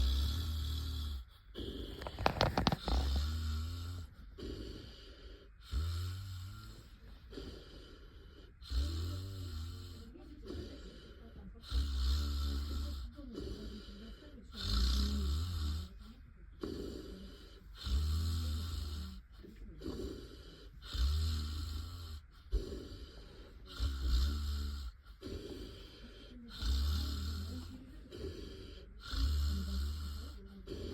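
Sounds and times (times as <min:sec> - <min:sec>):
man snoring: 0:00.0 - 0:30.9
wheezy out-breath: 0:00.0 - 0:30.9.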